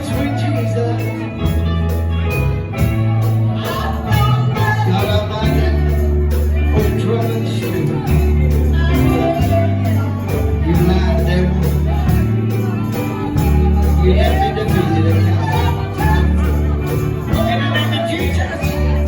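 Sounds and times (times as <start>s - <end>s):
gospel band playing: 0.0s - 19.0s
voices singing: 0.0s - 19.0s.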